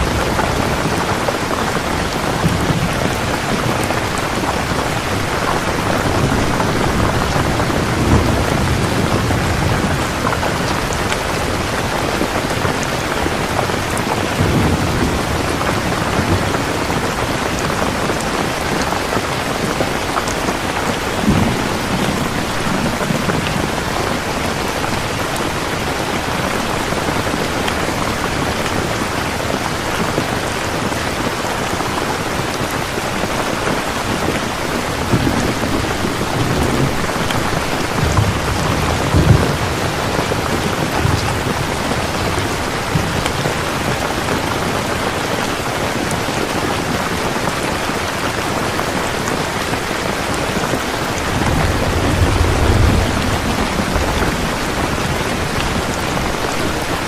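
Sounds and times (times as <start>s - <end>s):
thunder rumbling: 0.0s - 47.8s, 49.8s - 57.0s
rain falling: 0.0s - 57.0s.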